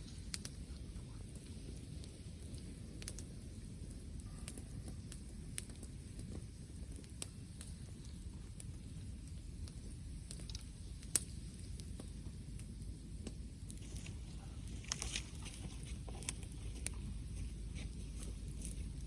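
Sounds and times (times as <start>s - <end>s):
bonfire crackling pops: 0.0s - 19.0s
low steady rumble: 0.0s - 19.0s.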